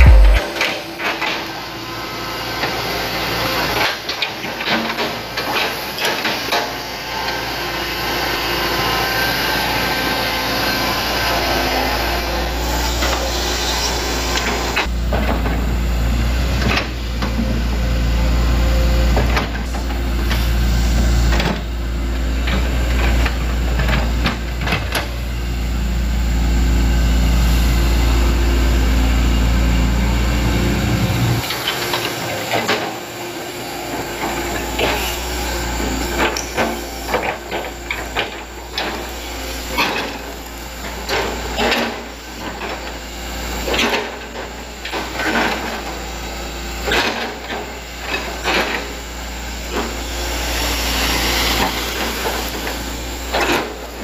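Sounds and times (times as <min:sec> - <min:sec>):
hydraulic excavator engine running: 0:00.0 - 0:54.0.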